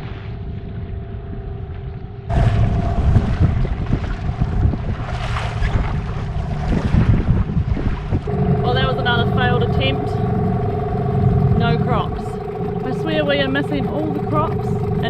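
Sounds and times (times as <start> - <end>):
outboard motor running: 0.0 - 15.0
wind buffeting microphone: 0.0 - 15.0.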